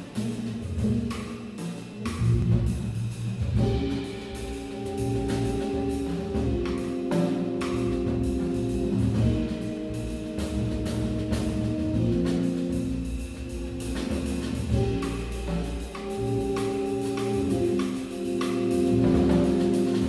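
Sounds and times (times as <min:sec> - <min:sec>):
low drum hits: 0:02.2 - 0:20.0
organ sustained chords: 0:03.6 - 0:20.0.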